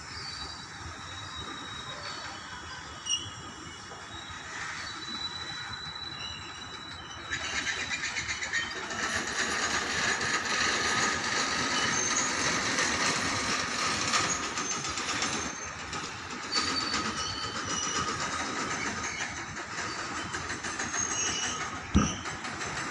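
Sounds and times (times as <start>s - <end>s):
train wheels rumbling on rails: 0.0s - 22.9s
wheels squealing: 0.9s - 22.9s.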